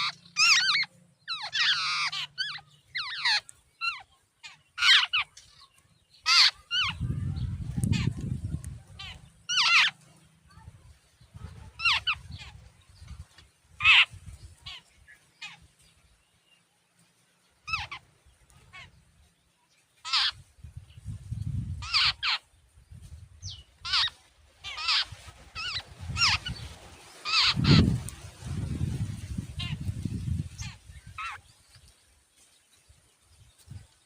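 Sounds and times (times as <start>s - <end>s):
birds giving harsh calls: 0.0s - 10.4s, 11.2s - 15.8s, 17.6s - 19.0s, 20.0s - 31.5s.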